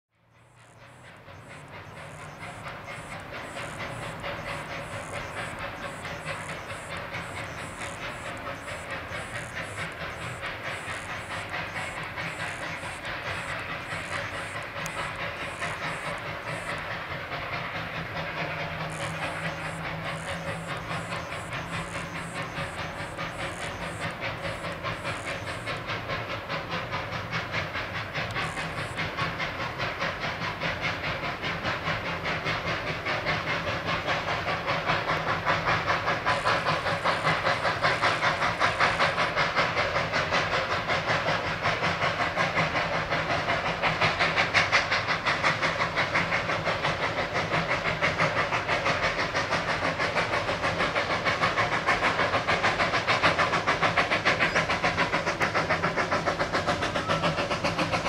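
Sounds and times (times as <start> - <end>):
steam locomotive exhaust beating: 0.2 - 58.0
steam hiss: 0.4 - 58.0.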